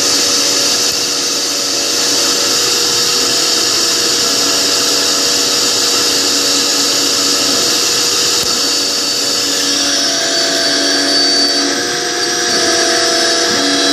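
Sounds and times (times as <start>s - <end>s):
router spindle milling: 0.0s - 13.9s
vacuum cleaner running: 0.0s - 13.9s.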